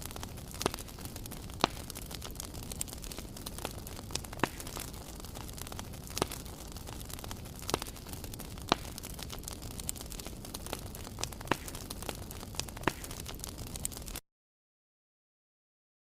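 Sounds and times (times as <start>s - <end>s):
fire crackling and popping: 0.0s - 14.2s.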